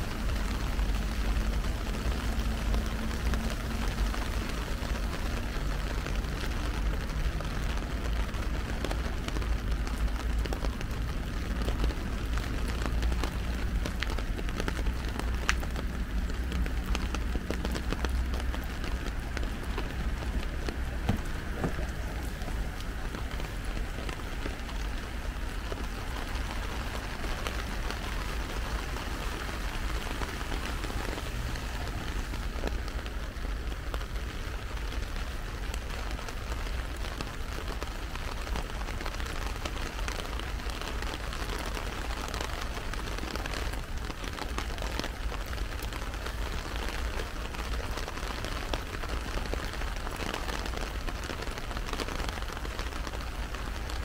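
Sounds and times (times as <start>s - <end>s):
heavy rain on umbrella: 0.0s - 54.0s.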